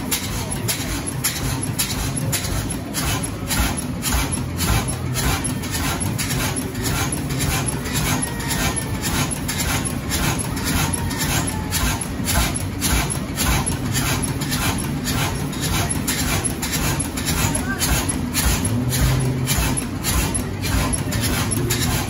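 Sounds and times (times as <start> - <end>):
stationary engine running: 0.0 - 22.0.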